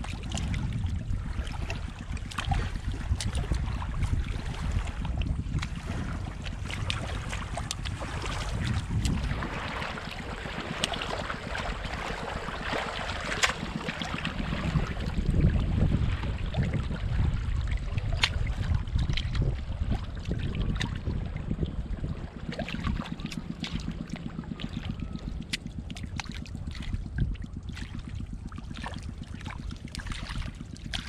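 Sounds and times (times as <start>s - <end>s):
hands sloshing through wet mud: 0.0s - 21.2s, 22.5s - 31.0s
wind rumble on microphone: 0.0s - 31.0s.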